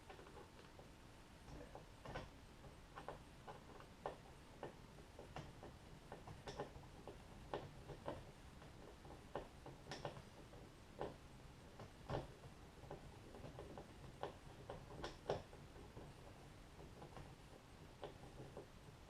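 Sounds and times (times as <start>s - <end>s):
small clicks and taps of tools: 1.5s - 18.8s.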